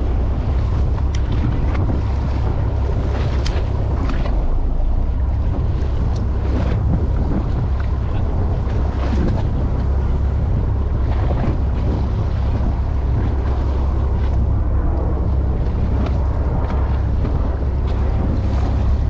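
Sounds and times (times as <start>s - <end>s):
water and boat noise: 0.0s - 19.0s
wind rumble on microphone: 0.0s - 19.0s.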